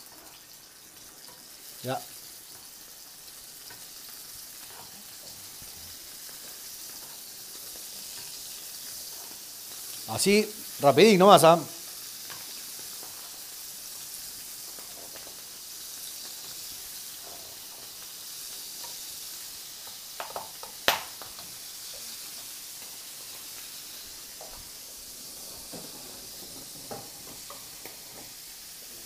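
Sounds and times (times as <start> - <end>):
scallops sizzling in a frying pan: 0.0 - 29.0.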